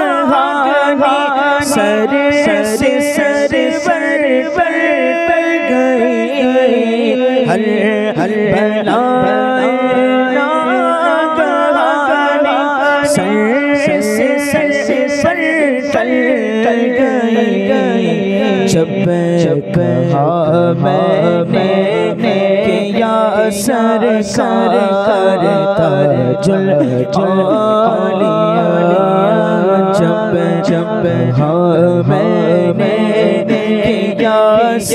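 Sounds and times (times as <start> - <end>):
man singing unaccompanied: 0.0 - 34.9.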